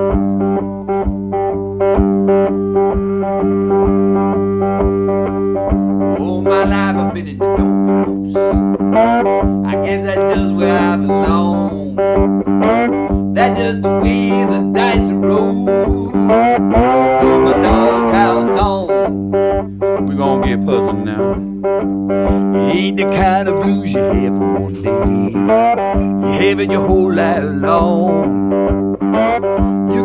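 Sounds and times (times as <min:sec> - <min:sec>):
plucked guitar with bass and beat: 0:00.0 - 0:30.0.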